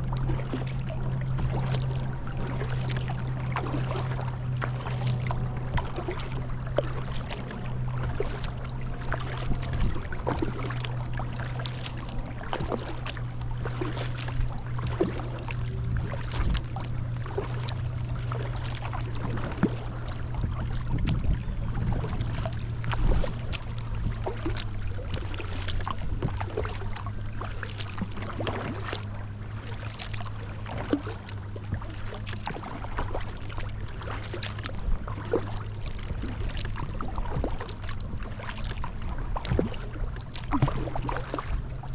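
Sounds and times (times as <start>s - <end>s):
paddle splashing in water: 0.0s - 41.9s
steady low hum: 0.0s - 41.9s.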